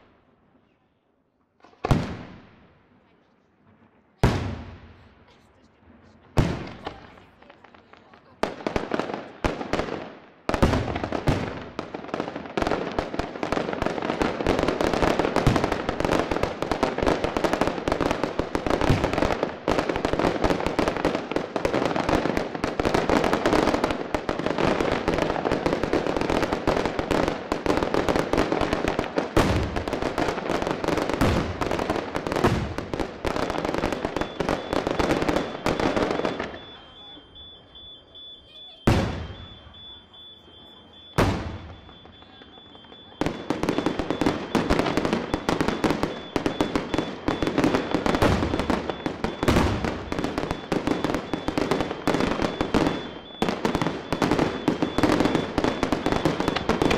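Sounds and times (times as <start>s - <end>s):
fireworks crackling and popping: 1.4s - 56.9s
deep fireworks booms: 1.6s - 3.0s, 3.6s - 56.9s.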